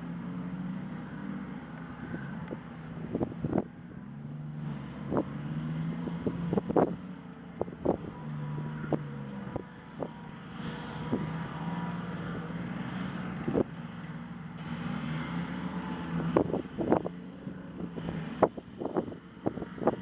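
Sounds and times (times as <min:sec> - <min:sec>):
distant tank engines droning: 0:00.0 - 0:20.0.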